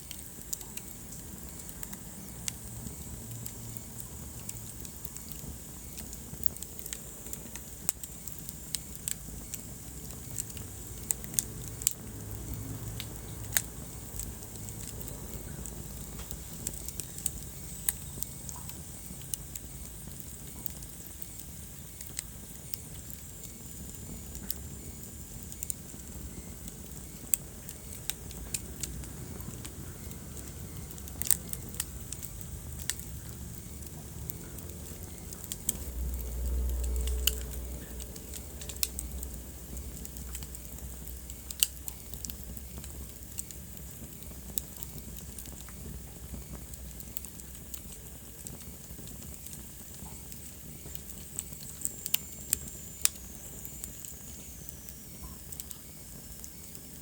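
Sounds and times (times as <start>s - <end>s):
fire rumble and hiss: 0.0s - 57.0s
logs crackling and popping: 0.0s - 57.0s.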